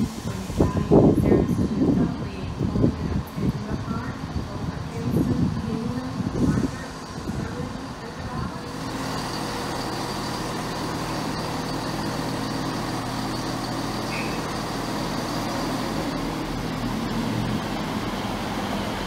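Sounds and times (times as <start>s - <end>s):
diesel train engines droning: 0.0s - 19.0s.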